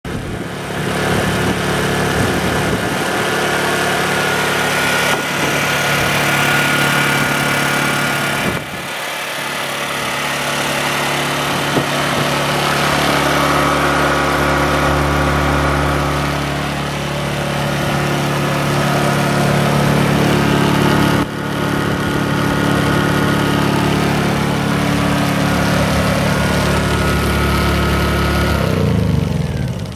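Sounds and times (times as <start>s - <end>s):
generator engine running: 0.1s - 29.9s.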